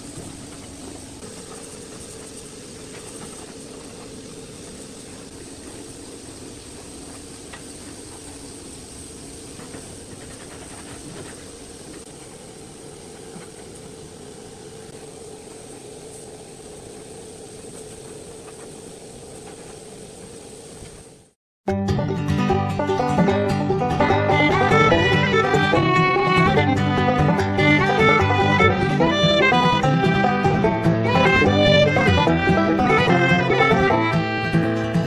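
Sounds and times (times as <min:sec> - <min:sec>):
machine hum with high whine: 0:00.0 - 0:21.3, 0:24.0 - 0:35.0.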